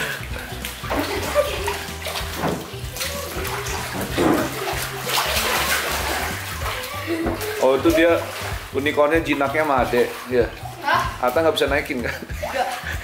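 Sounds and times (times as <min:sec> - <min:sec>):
background music: 0:00.0 - 0:13.0
pool water splashing: 0:00.0 - 0:13.0.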